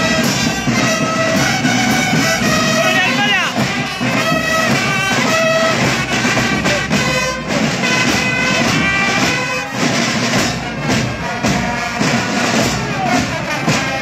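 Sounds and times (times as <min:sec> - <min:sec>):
marching drum band: 0:00.0 - 0:14.0.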